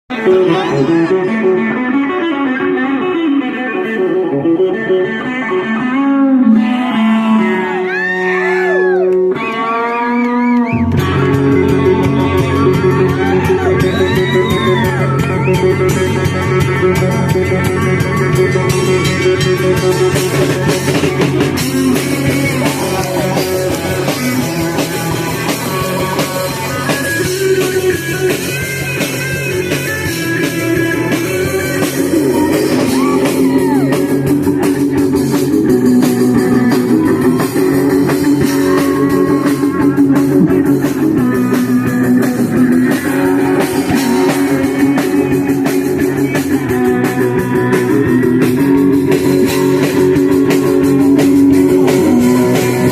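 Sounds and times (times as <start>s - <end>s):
punk rock band playing live: 0.1s - 52.9s.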